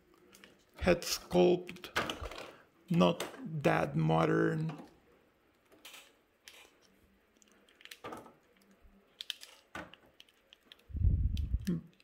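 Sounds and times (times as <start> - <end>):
plastic figure clicks and rustles: 0.0 - 3.4, 4.7 - 12.0.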